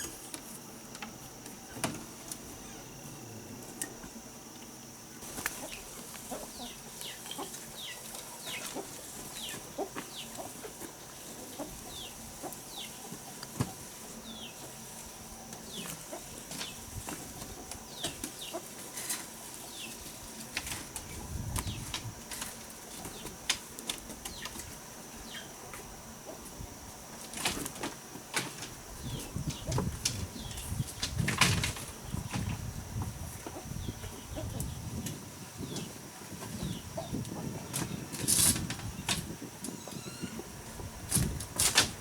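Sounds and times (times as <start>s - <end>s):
chickens peeping and clucking: 5.2s - 42.0s.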